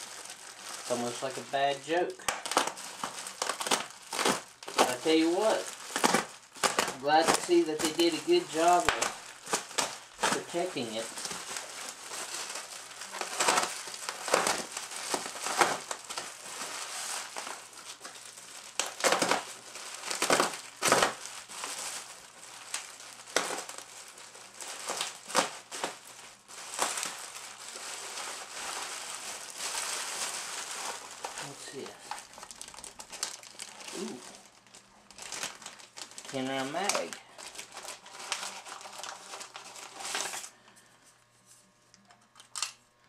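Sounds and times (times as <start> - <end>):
bubble wrap crinkling: 0.0 - 40.6.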